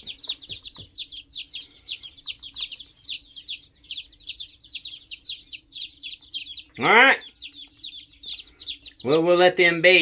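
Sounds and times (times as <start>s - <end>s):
baby chicks peeping: 0.0s - 10.0s.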